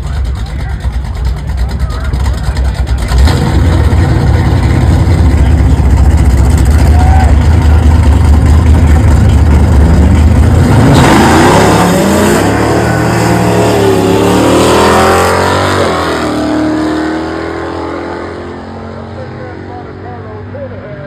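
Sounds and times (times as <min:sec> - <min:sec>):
turbocharged engine droning: 0:00.0 - 0:21.0.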